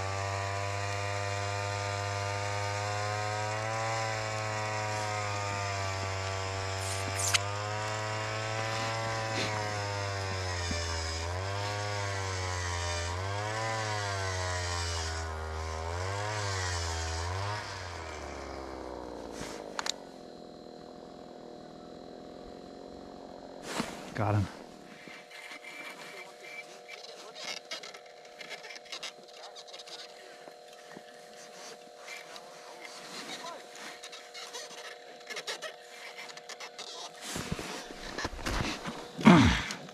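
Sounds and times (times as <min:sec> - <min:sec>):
small gasoline engine revving: 0:00.0 - 0:39.9.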